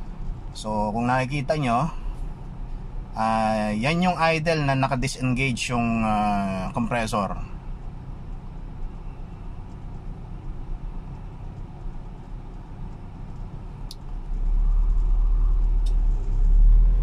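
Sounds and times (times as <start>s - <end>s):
faint compressor whine: 0.0s - 16.9s
car engine idling: 0.0s - 17.0s.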